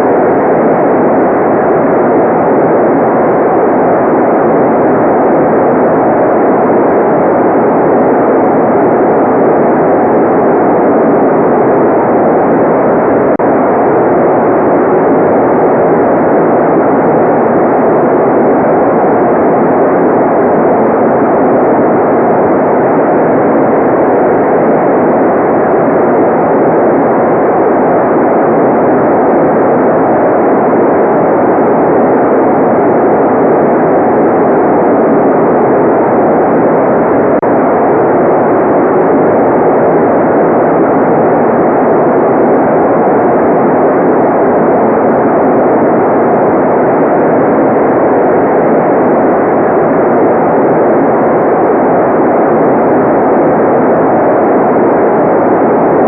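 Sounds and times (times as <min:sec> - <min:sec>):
dull electronic noise rush: 0:00.0 - 0:56.0.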